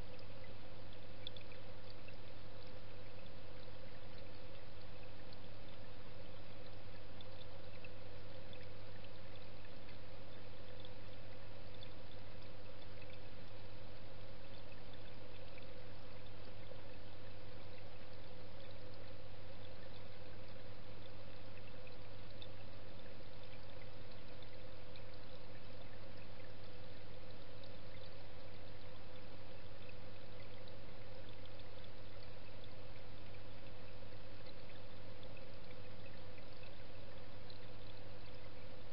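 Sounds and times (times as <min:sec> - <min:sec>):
constant low hum: 0:00.0 - 0:38.9.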